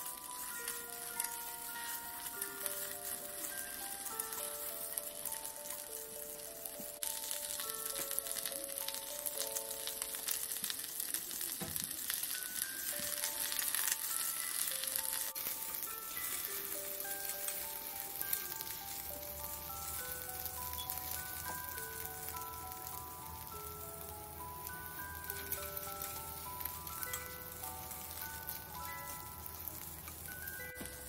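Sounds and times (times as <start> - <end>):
food sizzling in oil: 0.0 - 31.0.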